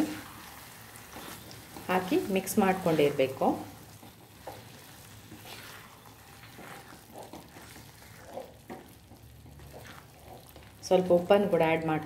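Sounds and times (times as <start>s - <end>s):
spatula scraping pan: 0.0s - 10.8s
curry sizzling: 0.0s - 12.0s.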